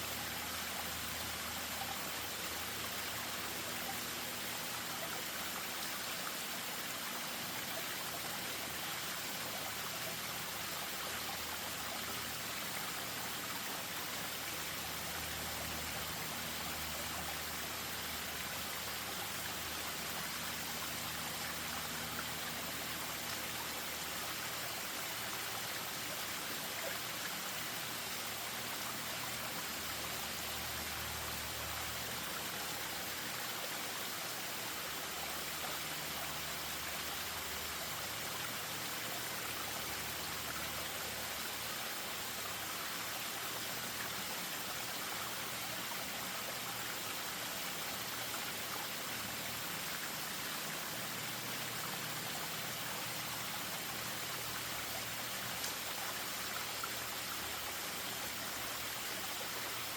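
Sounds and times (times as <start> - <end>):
stream rushing and trickling: 0.0 - 59.9.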